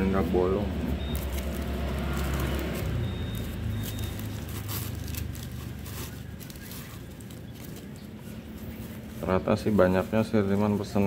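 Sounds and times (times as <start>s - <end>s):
paper crinkling and rustling: 1.1s - 11.0s.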